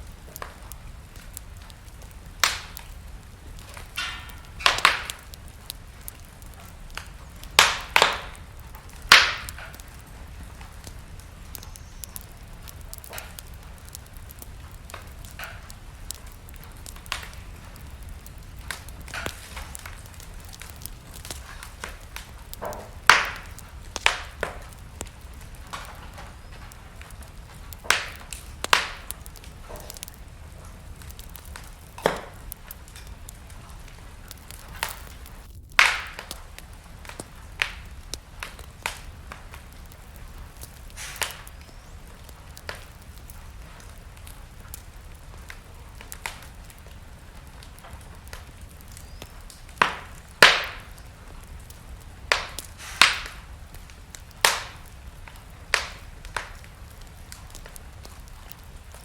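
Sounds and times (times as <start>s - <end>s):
fire popping: 0.0s - 59.0s
low fire rumble: 0.0s - 59.0s
wood fire crackling: 0.0s - 59.0s.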